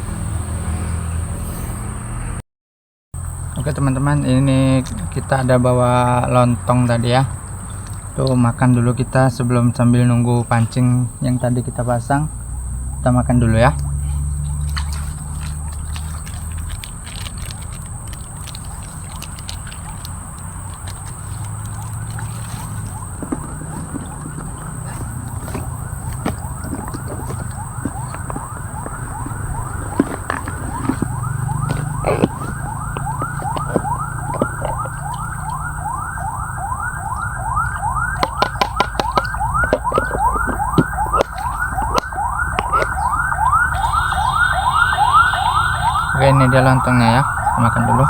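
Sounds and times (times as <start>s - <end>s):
cicada rising chirp: 3.2s - 48.0s.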